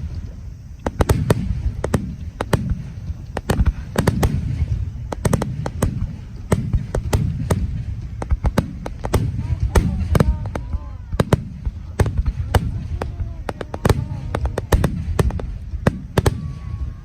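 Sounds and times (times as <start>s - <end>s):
fireworks cracking and banging: 0.0s - 17.0s
low rumble and echo: 0.0s - 17.0s.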